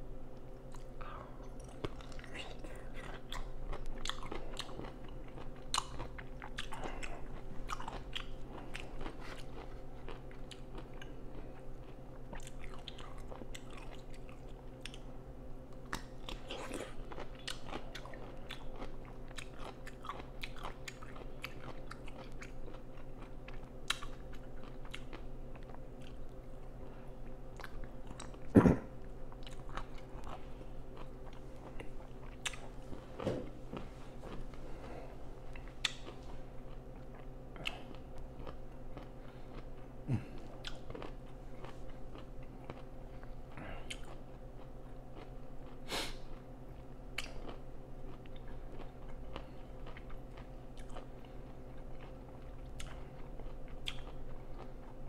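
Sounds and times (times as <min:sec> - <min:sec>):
steady low hum: 0:00.0 - 0:55.0
crunching and chewing pickles: 0:00.2 - 0:55.0.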